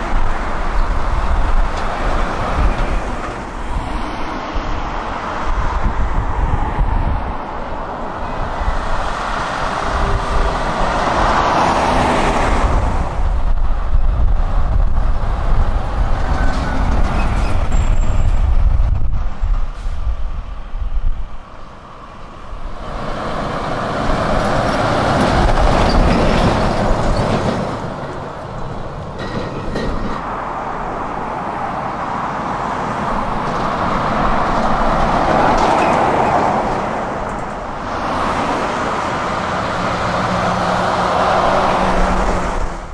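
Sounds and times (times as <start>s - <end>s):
tyre and road noise: 0.0s - 42.9s.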